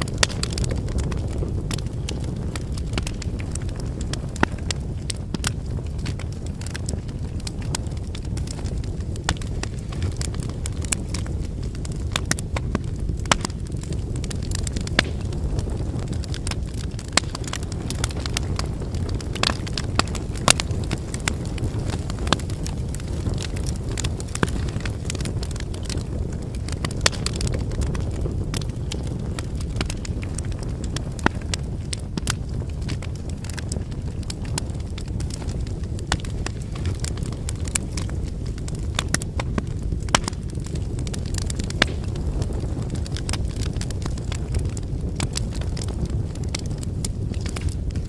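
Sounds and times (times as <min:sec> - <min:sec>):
firewood crackling and popping: 0:00.0 - 0:48.0
flames rushing: 0:00.0 - 0:48.0.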